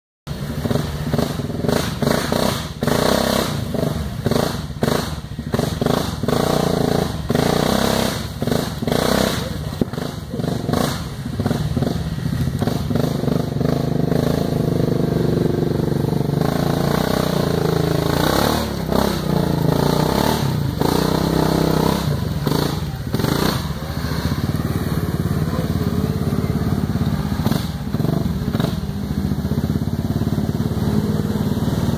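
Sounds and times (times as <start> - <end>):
atv engine revving: 0.3 - 31.9
tires spinning in mud: 0.3 - 31.9.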